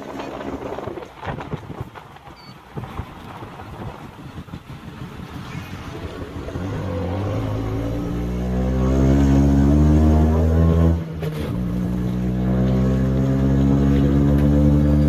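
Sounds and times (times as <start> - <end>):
auto rickshaw engine accelerating: 0.0 - 15.0.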